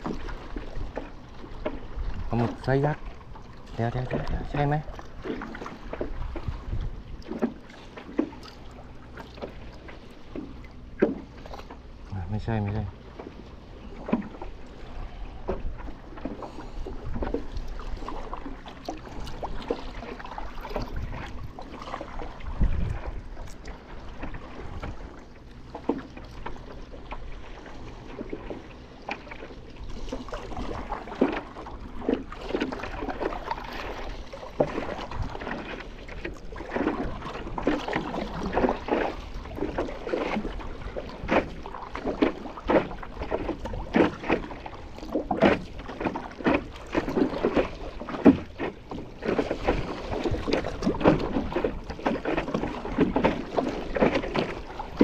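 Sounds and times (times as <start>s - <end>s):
paddle splashing into water: 0.0s - 11.8s, 13.0s - 55.0s
water slapping against paddleboard: 0.0s - 55.0s.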